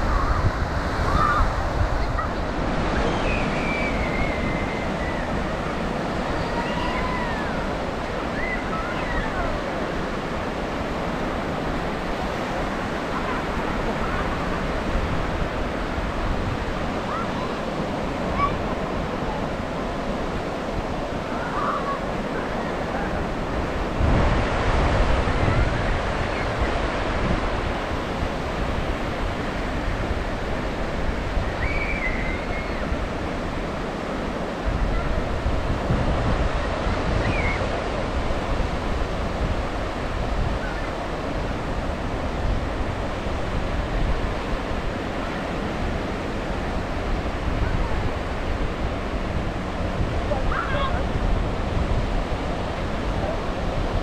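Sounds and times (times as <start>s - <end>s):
ocean surf on sandy beach: 0.0s - 54.0s.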